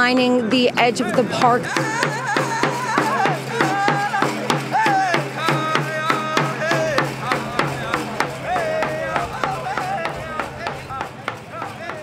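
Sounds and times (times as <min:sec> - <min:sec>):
drum struck at a steady pulse: 0:00.0 - 0:12.0
voices singing high melody: 0:01.2 - 0:12.0.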